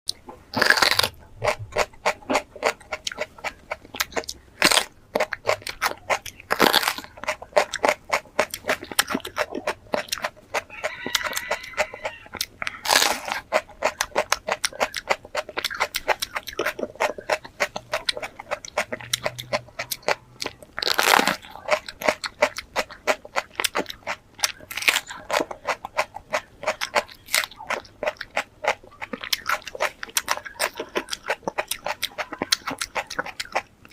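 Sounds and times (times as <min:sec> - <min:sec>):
crunching bite: 0:00.1 - 0:33.9
crunchy chewing: 0:00.1 - 0:33.9.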